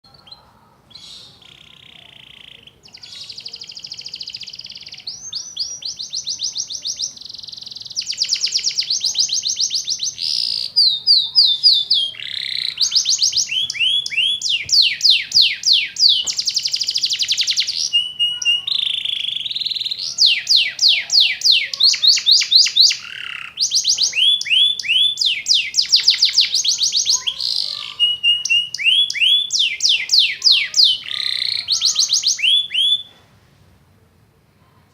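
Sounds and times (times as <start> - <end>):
canary singing trills: 0.0 - 33.2.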